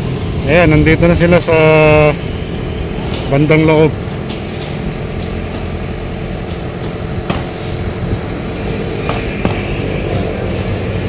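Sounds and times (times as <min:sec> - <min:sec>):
excavator engine rumbling: 0:00.0 - 0:11.0.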